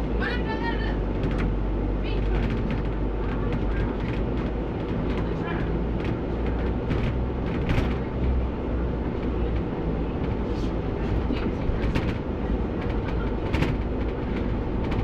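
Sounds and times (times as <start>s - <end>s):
bus engine and road rumble: 0.0s - 15.0s
rattles and clicks: 1.1s - 8.4s, 9.2s - 15.0s.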